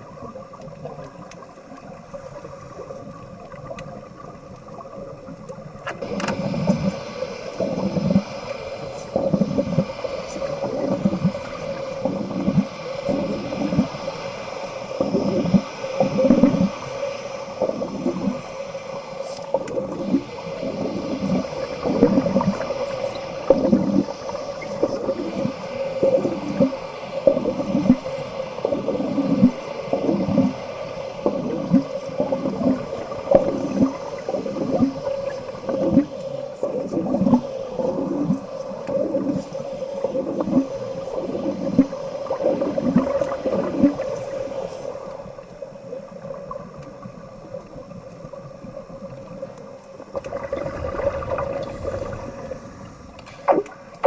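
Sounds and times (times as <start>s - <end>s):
gas bubbles gurgling: 0.0s - 54.0s.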